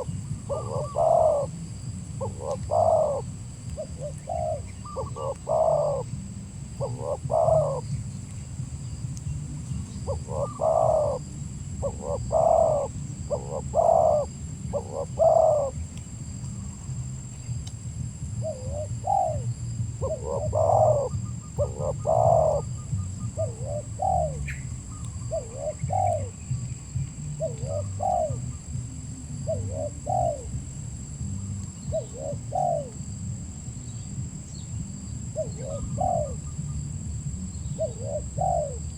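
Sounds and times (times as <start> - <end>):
dove cooing: 0.0 - 8.2, 9.5 - 16.0, 18.2 - 33.2, 35.3 - 36.8, 37.7 - 38.9
steady low rumble: 0.0 - 38.9.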